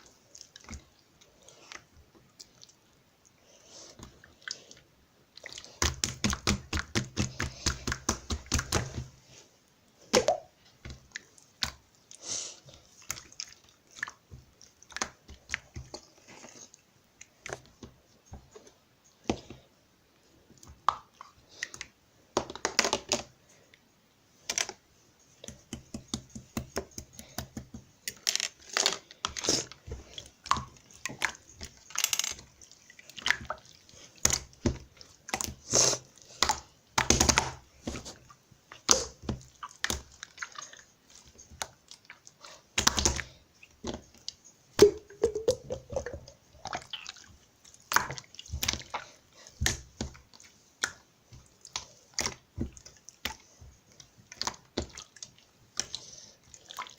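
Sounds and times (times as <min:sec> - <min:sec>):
wet clicks and squishes: 0:00.0 - 0:09.1, 0:10.0 - 0:11.9, 0:12.7 - 0:19.6, 0:20.5 - 0:23.3, 0:25.4 - 0:56.9.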